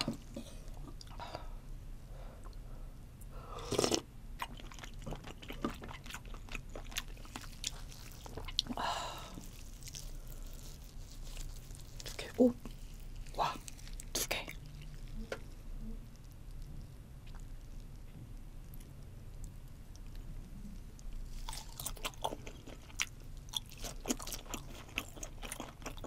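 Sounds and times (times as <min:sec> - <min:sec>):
person chewing soft food: 0:03.6 - 0:26.0.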